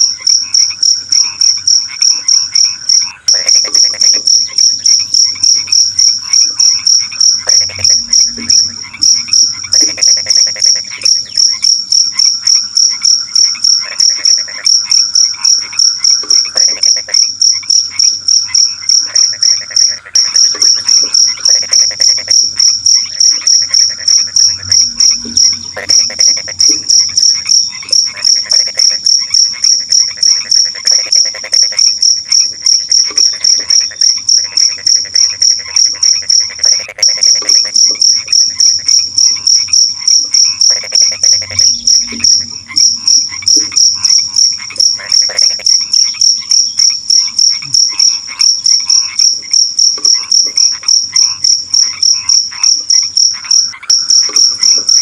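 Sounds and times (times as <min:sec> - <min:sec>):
crickets chirping: 0:00.0 - 0:55.0
night animals rattling calls: 0:00.0 - 0:55.0.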